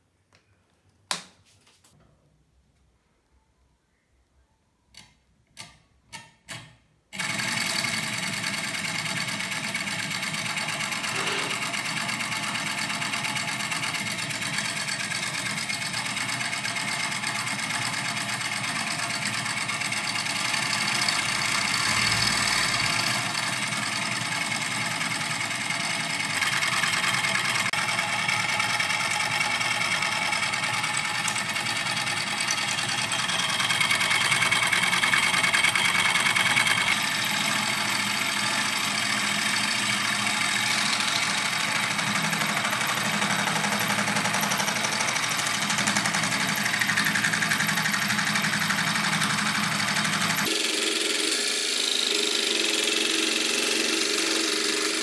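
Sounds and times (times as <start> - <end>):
scroll saw running: 7.2 - 55.0.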